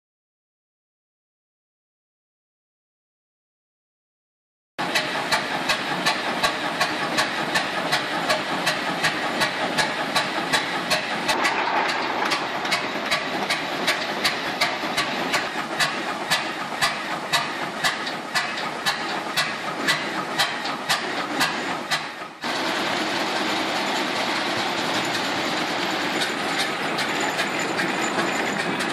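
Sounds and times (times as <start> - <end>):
tractor engine running slowly: 4.8 - 28.9.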